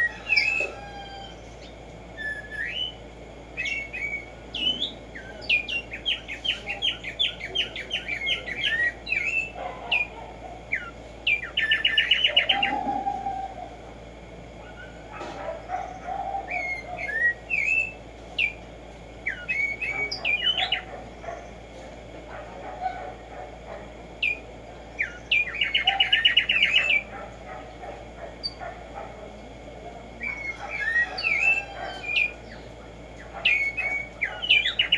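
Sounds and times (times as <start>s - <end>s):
sparrow singing trill: 0.0s - 13.6s, 14.6s - 21.7s, 24.1s - 27.1s, 28.4s - 28.6s, 30.2s - 34.9s.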